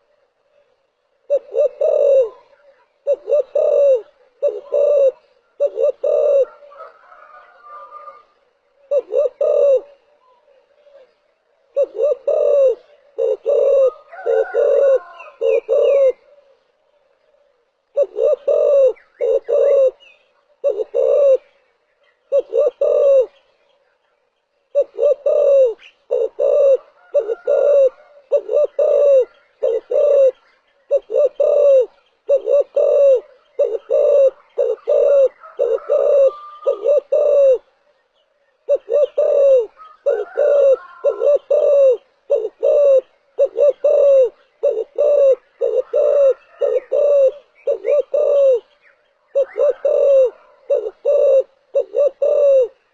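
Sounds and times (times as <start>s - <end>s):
dove cooing: 0.0s - 23.5s, 24.7s - 52.9s.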